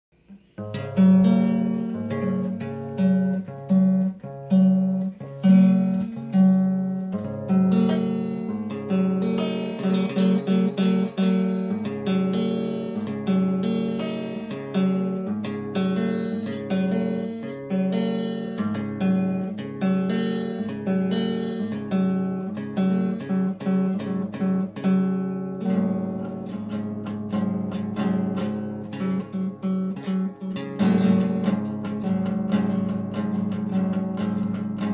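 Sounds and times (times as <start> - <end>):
acoustic guitar playing: 0.1 - 34.9.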